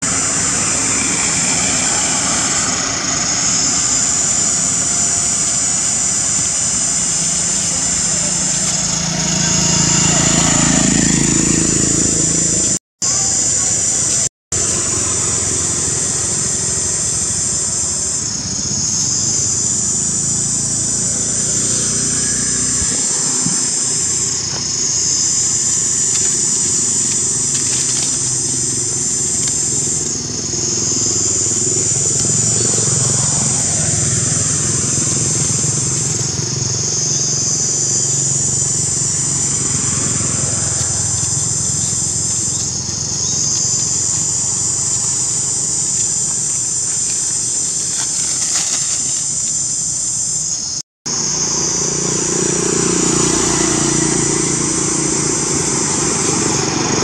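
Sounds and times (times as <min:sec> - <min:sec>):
insects buzzing: 0:00.0 - 0:57.0
motor traffic hum: 0:00.0 - 0:57.0
vehicles passing: 0:00.0 - 0:57.0.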